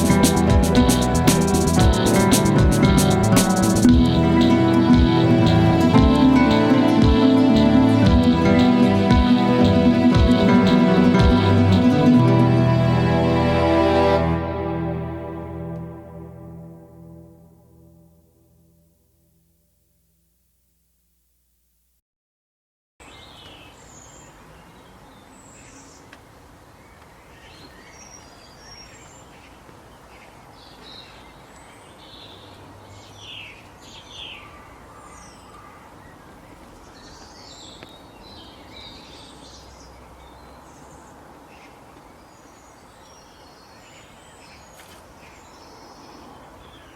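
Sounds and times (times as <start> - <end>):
steady outdoor hiss: 0.0 - 19.3, 23.0 - 46.9.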